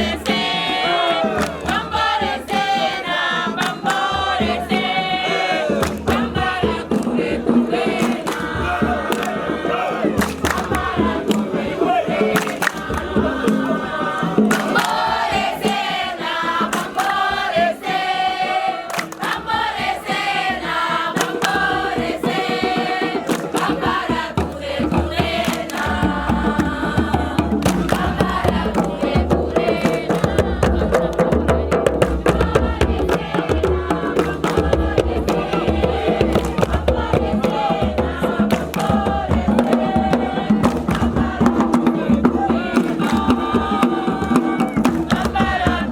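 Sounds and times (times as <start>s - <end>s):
group call-and-response chant: 0.0s - 45.9s.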